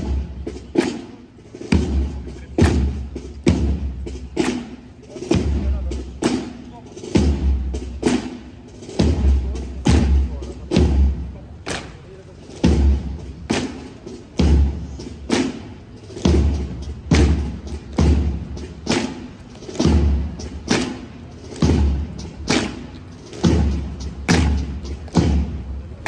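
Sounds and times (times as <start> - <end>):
marching steps of clogs: 0.0 - 26.0.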